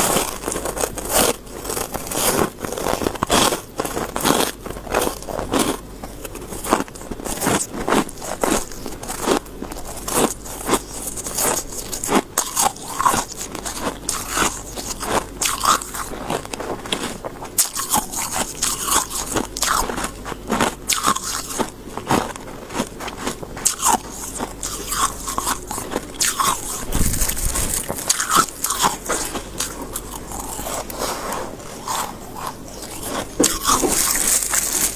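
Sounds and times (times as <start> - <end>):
person chewing crunchy frost: 0.0 - 34.9.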